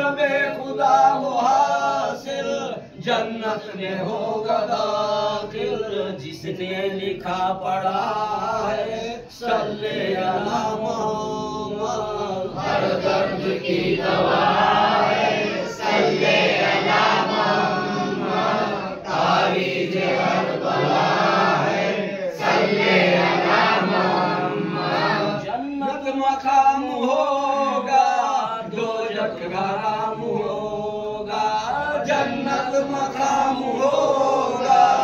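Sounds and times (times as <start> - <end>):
men chanting unaccompanied: 0.0 - 35.0.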